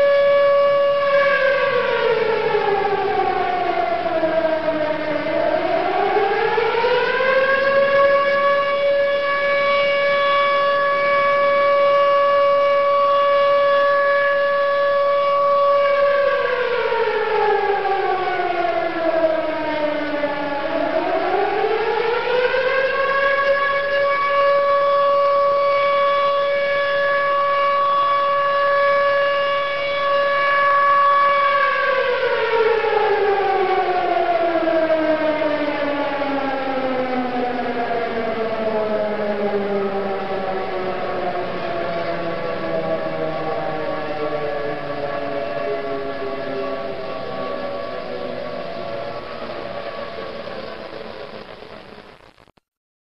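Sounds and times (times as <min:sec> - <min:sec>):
siren wailing: 0:00.0 - 0:52.3.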